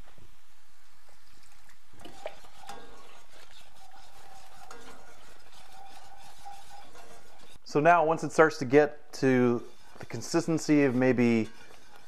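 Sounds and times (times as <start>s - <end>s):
light sizzle from pan: 0.0s - 12.0s
whisk scraping a skillet: 2.0s - 12.0s.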